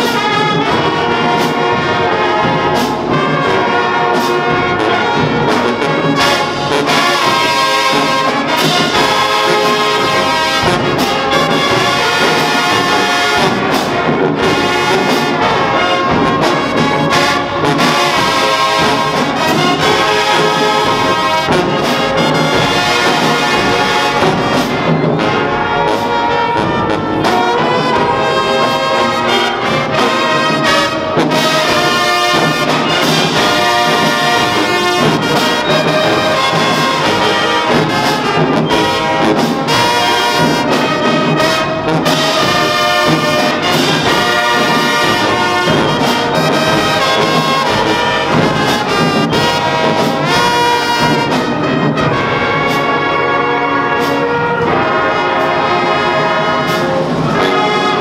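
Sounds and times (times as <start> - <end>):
marching band brass playing: 0.0 - 58.0.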